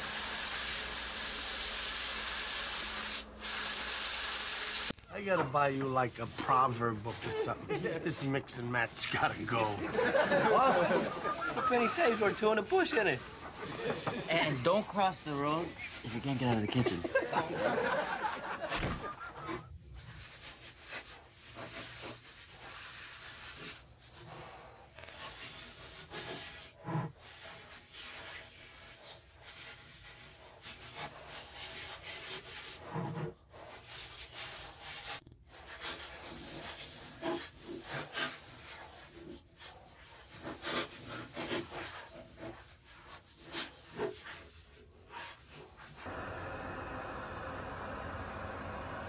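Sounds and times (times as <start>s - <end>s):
paint brush scrubbing metal: 0.0s - 18.6s, 19.2s - 46.1s.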